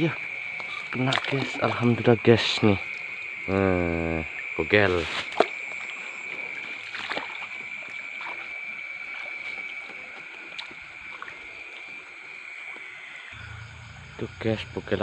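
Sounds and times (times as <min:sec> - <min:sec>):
water sloshing in stream: 0:00.0 - 0:03.5, 0:04.2 - 0:14.1
night insects chorus: 0:00.0 - 0:15.0.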